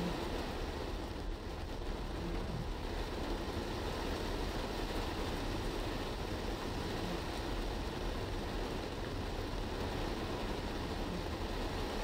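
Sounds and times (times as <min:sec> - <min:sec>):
car tyre and road noise: 0:00.0 - 0:12.0.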